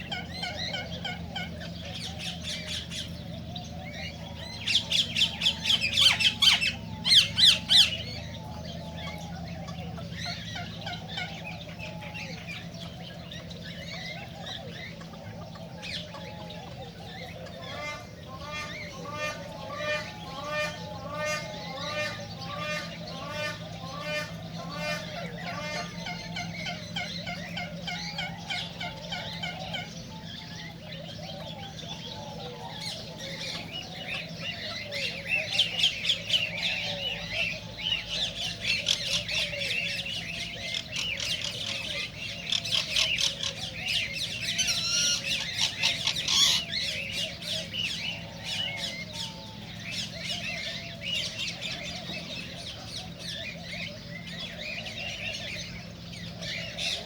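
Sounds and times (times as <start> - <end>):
cockatiels squawking and chirping: 0.0 - 57.0
steady low hum: 0.0 - 57.0.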